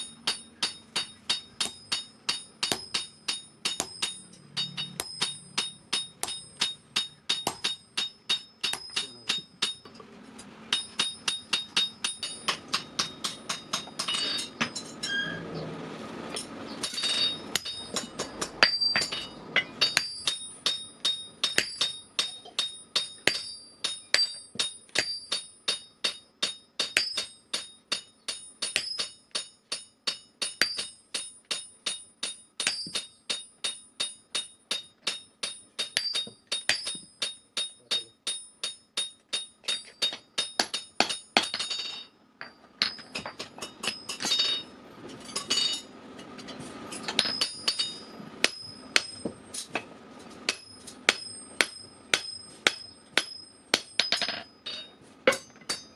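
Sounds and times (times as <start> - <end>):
hammer ringing on anvil: 0.0 - 10.0, 10.7 - 15.4, 16.4 - 49.8, 50.5 - 55.9.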